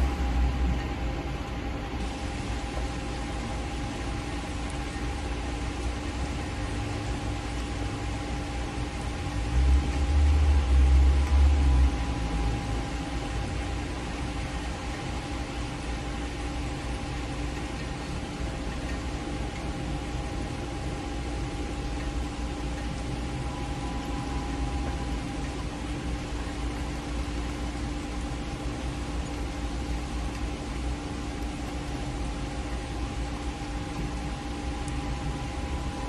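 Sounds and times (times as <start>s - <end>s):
mechanical hum: 0.0s - 36.0s
steady rain hiss: 0.0s - 36.0s.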